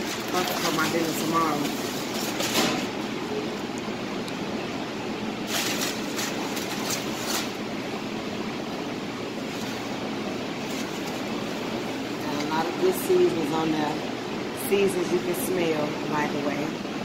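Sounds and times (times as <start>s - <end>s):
exhaust hood fan running: 0.0s - 17.0s.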